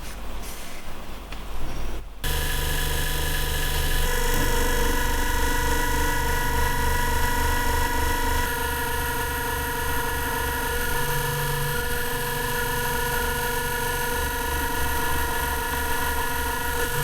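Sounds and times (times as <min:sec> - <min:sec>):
electric motor tool humming: 0:02.2 - 0:17.0
tool switching on: 0:02.2 - 0:17.0.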